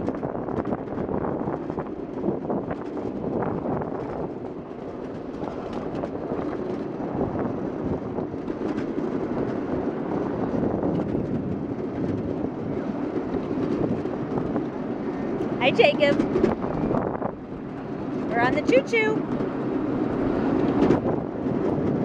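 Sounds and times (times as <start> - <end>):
train wheels rumbling on rails: 0.0 - 22.0
wind on microphone: 0.0 - 22.0.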